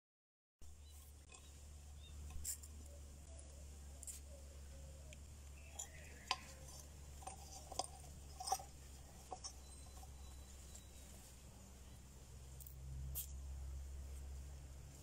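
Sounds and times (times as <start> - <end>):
low steady hum: 0.6 - 15.0.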